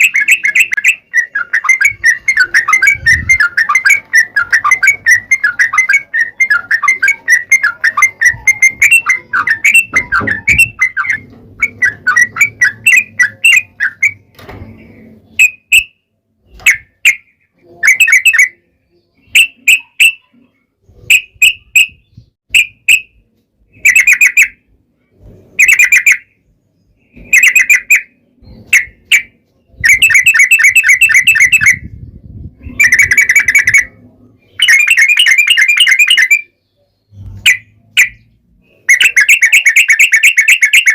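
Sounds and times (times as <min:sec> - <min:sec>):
bulbul singing: 0:00.0 - 0:24.8, 0:25.6 - 0:40.9.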